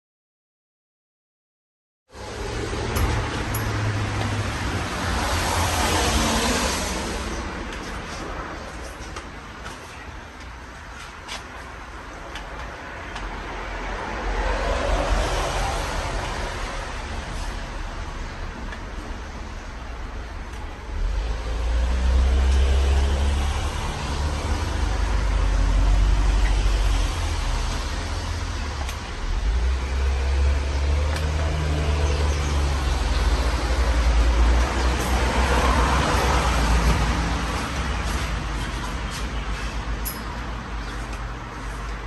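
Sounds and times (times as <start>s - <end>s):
fan airflow buffeting microphone: 2.2s - 42.0s.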